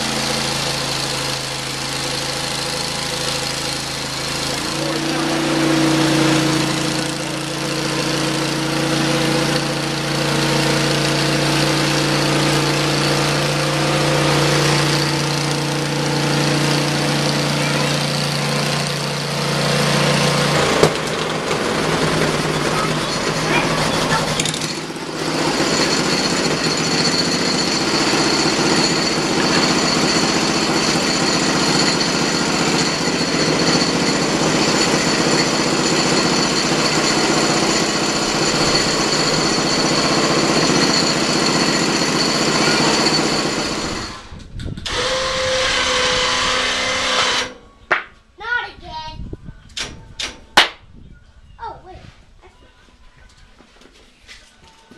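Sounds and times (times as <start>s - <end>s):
bandsaw sawmill running: 0.0s - 47.6s.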